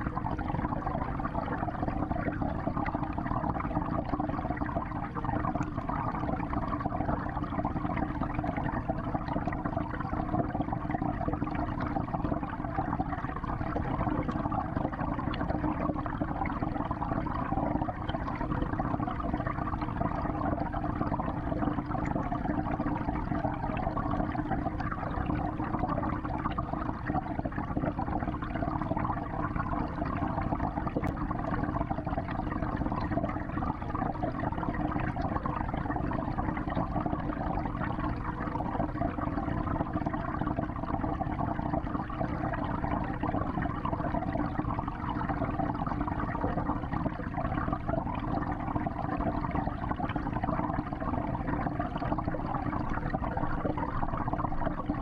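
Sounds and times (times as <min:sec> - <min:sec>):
water churning underwater: 0:00.0 - 0:55.0.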